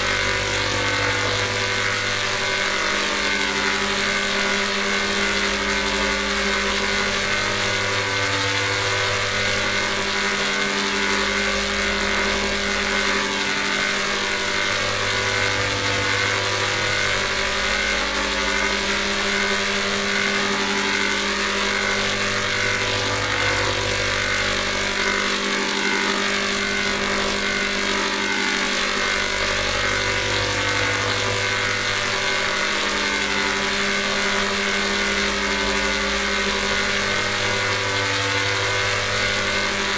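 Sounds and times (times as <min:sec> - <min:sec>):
dense electronic drone: 0:00.0 - 0:39.9.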